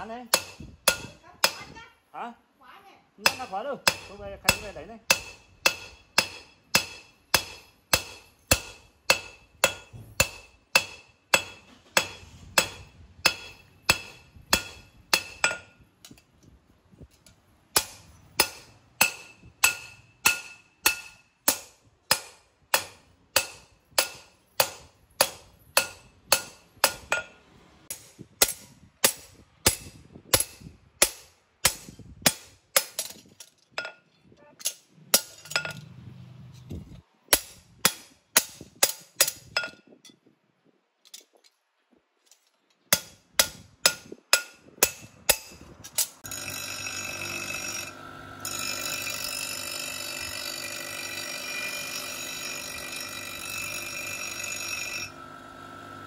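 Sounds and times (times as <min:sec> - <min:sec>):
hammer striking steel on anvil: 0:00.0 - 0:01.8, 0:03.2 - 0:16.2, 0:17.7 - 0:33.2, 0:34.6 - 0:35.8, 0:37.3 - 0:39.8, 0:42.9 - 0:55.1.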